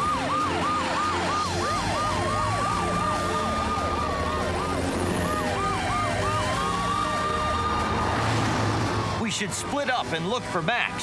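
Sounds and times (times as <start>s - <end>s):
fast yelping siren: 0.0s - 9.3s
wailing siren: 0.0s - 10.6s.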